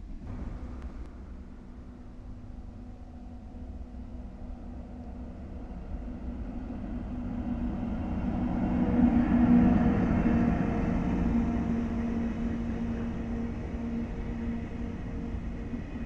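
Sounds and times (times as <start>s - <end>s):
electric locomotive passing: 0.6s - 16.0s.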